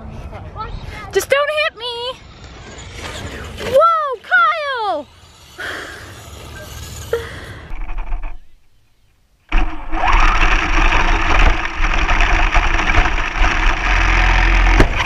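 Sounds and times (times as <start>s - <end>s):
rc car rattling and rushing: 1.9s - 8.6s, 9.5s - 15.0s.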